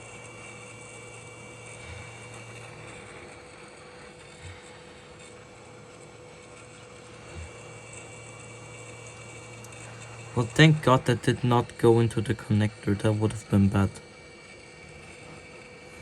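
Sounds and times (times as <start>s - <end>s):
hot air rework station blowing: 0.0s - 16.0s.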